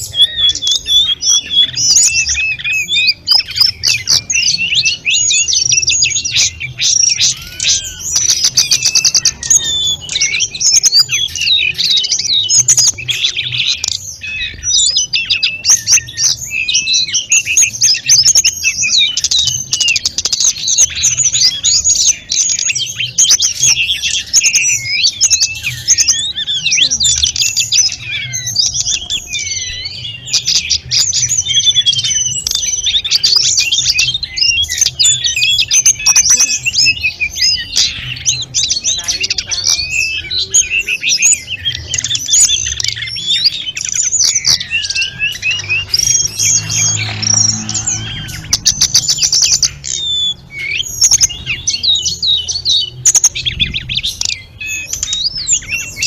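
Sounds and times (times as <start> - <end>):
bird singing fast chattering song: 0.0 - 56.0.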